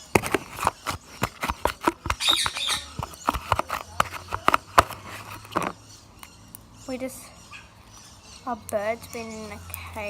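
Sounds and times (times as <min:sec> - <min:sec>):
bird squawking: 0:00.6 - 0:09.8.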